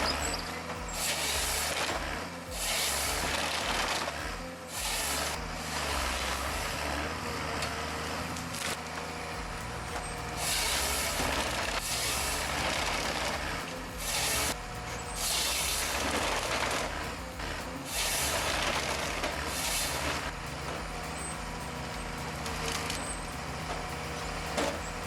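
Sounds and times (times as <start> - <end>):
heavy diesel engine running: 0.0 - 25.0
hissing bursts: 0.0 - 25.0.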